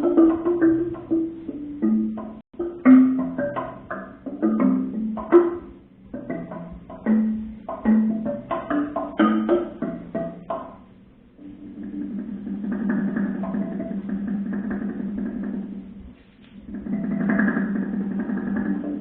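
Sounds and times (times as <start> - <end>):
experimental percussion music: 0.0 - 19.0.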